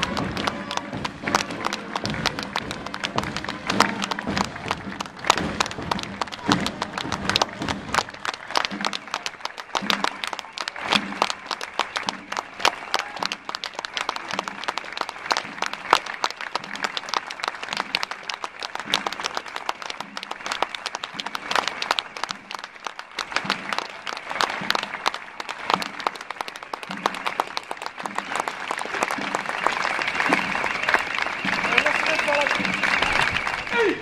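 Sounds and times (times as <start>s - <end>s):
crowd applauding: 0.0s - 34.0s.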